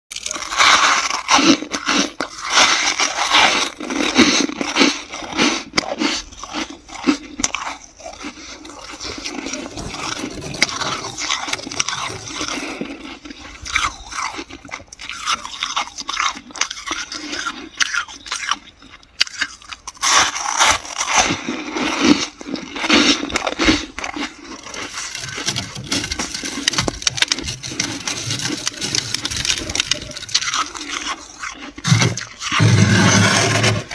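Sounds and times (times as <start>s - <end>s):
metal spoon scraping frost: 0.1s - 18.8s, 19.5s - 33.9s.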